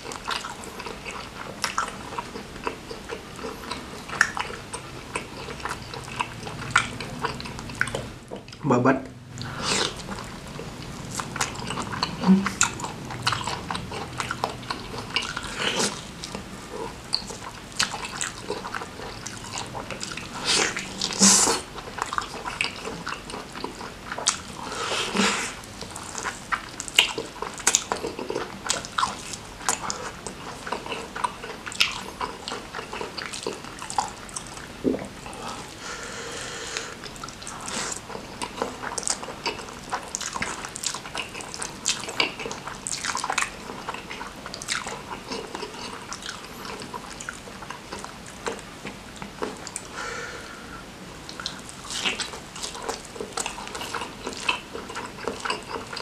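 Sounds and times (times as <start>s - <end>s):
wet chewing: 0.0s - 8.6s, 9.4s - 35.8s, 36.7s - 50.0s, 51.2s - 56.0s.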